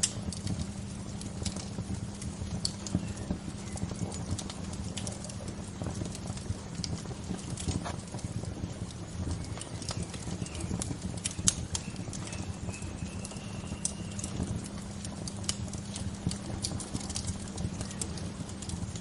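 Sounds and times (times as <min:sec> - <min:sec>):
bonfire popping and snapping: 0:00.0 - 0:19.0
low rush of fire: 0:00.0 - 0:19.0.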